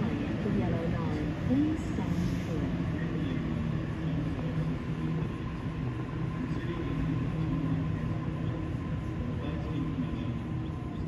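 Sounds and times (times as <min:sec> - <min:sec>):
electric train humming: 0:00.0 - 0:11.0
faint high whine: 0:00.0 - 0:11.0.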